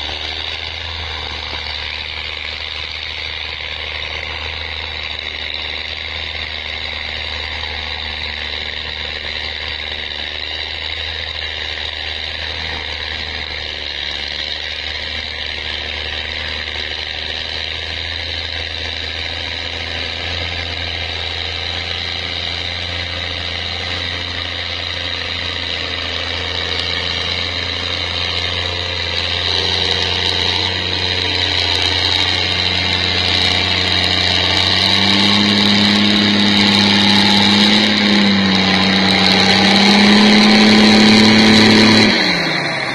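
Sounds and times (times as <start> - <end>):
tractor diesel engine ploughing: 0.0 - 42.9.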